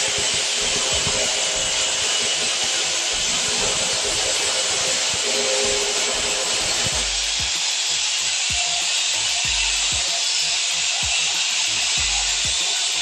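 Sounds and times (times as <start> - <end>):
hammer drill boring into tile: 0.0 - 13.0.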